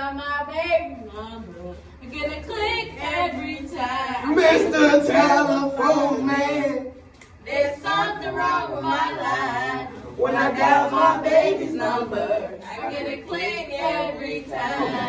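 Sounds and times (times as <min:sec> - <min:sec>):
girls singing a cappella: 0:00.0 - 0:15.0.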